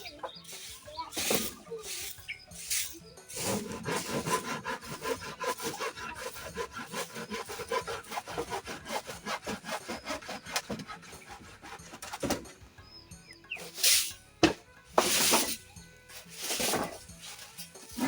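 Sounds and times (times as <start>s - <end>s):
hand saw cutting wood: 0.0s - 12.7s, 13.6s - 18.0s.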